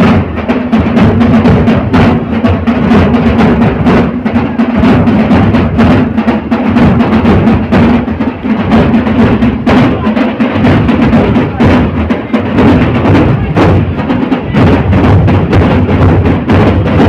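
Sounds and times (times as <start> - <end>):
procession drums beating: 0.0 - 17.0.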